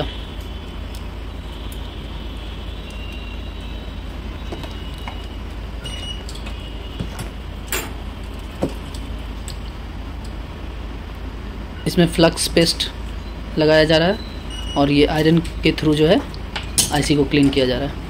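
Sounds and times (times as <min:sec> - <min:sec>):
workshop hum and hiss: 0:00.0 - 0:18.0.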